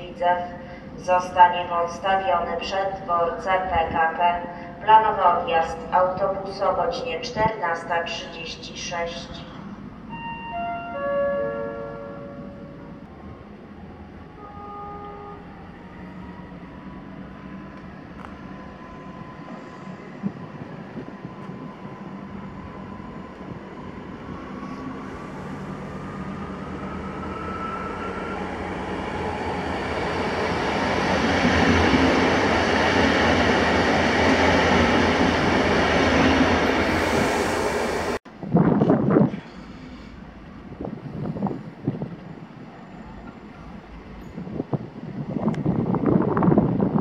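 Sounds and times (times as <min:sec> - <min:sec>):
electric train approaching: 0:08.6 - 0:47.0.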